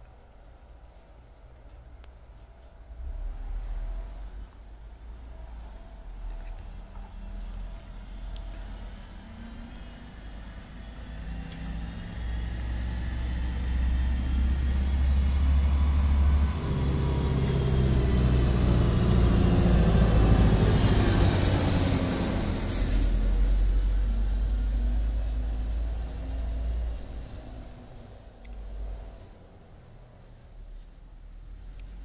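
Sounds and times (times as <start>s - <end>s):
heavy vehicle engine passing by: 2.9s - 32.0s.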